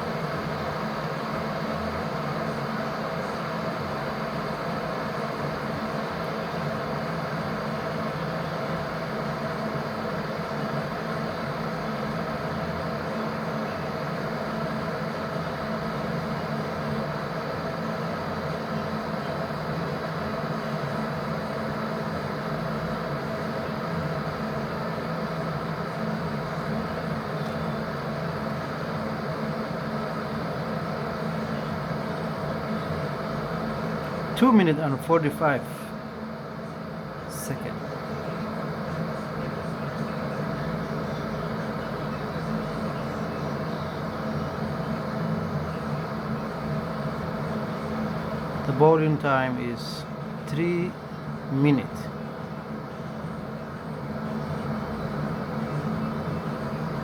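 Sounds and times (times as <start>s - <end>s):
electric kettle heating water: 0.0s - 57.0s.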